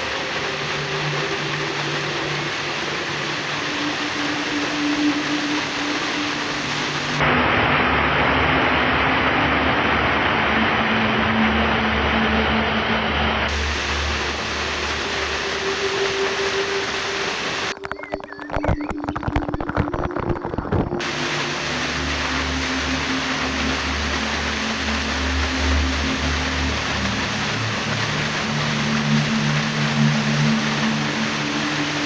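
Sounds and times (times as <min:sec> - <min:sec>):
waterfall rushing: 0:00.0 - 0:17.8, 0:21.0 - 0:32.0.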